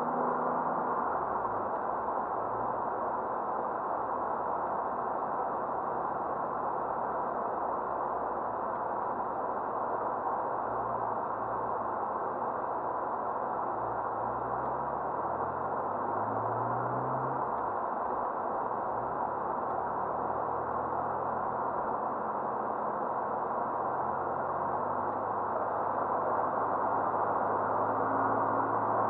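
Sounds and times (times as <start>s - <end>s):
car engine drone: 0.0s - 29.0s
road noise hiss in car cabin: 0.0s - 29.0s.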